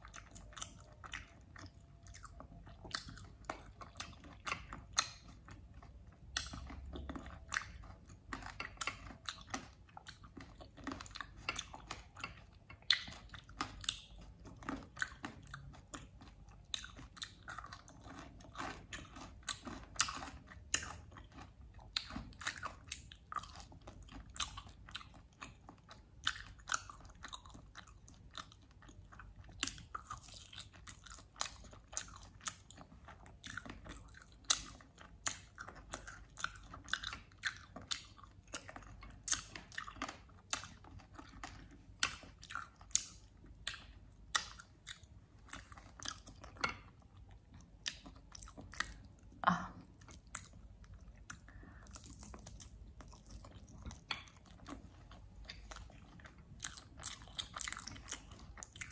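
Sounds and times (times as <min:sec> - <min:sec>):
chewing meat: 0:00.0 - 0:58.9.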